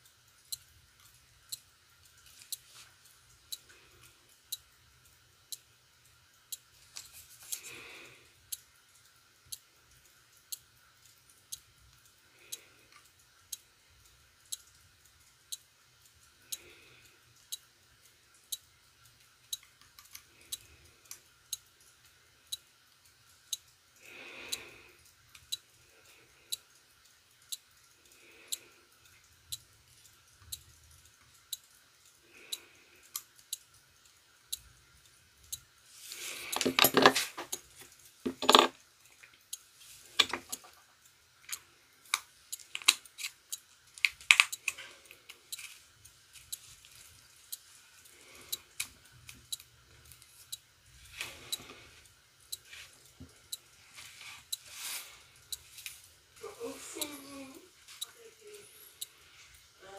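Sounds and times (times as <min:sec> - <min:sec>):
low background hum: 0:00.0 - 0:59.9.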